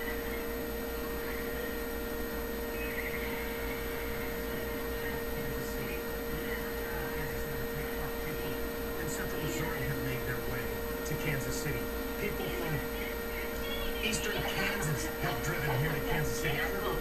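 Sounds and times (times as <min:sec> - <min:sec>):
electrical hum: 0:00.0 - 0:17.0
faint high-pitched whine: 0:00.0 - 0:17.0.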